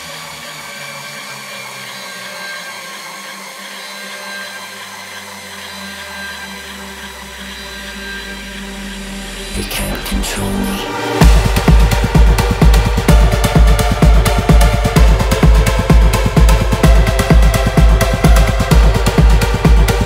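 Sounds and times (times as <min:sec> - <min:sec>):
deep bass tone sliding downward: 0:00.0 - 0:20.0
held synth chords: 0:00.0 - 0:20.0.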